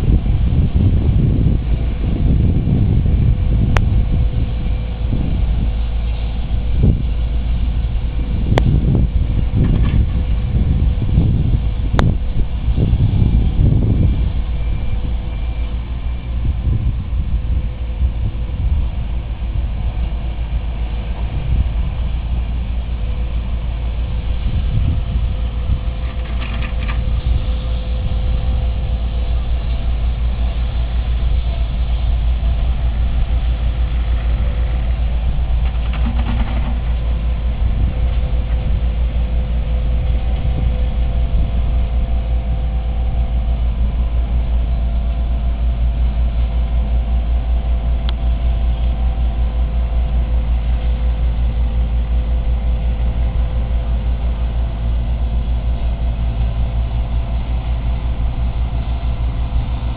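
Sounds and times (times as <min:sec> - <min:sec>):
road roller engine rumbling: 0:00.0 - 0:59.9.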